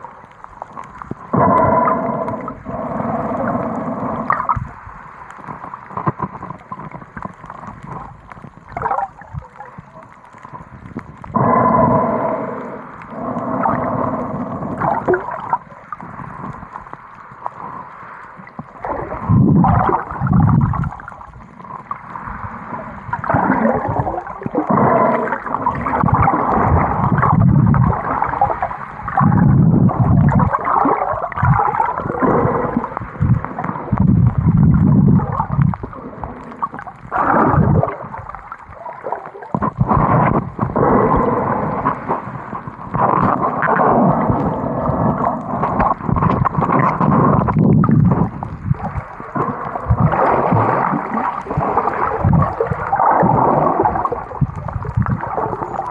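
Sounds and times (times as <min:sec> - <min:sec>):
underwater water gurgling and rushing: 0:00.0 - 0:55.9.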